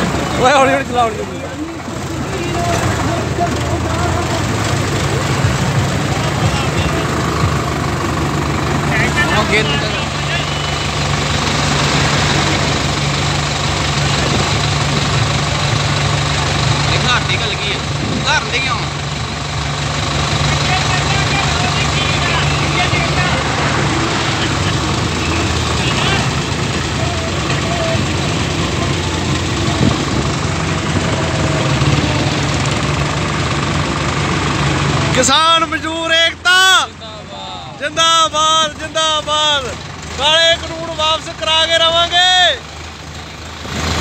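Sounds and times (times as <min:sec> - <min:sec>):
diesel tractor engine running: 0:00.0 - 0:44.0
road noise: 0:00.0 - 0:44.0.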